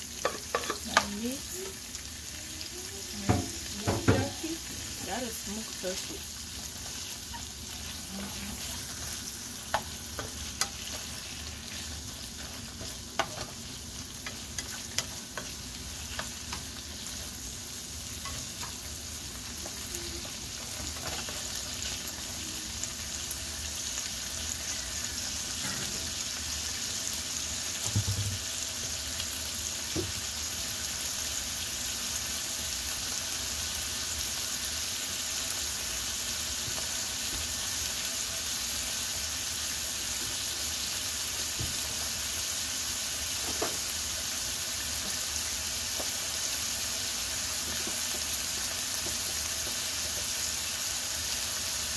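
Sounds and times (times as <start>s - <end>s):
food sizzling in frying pan: 0.0s - 51.9s.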